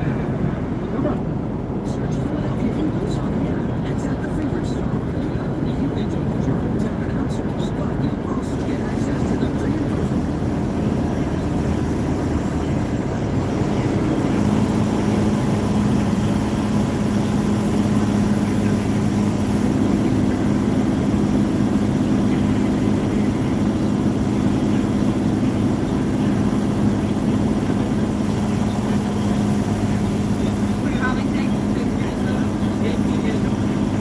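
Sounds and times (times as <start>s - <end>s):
truck engine and tyre drone: 0.0s - 34.0s.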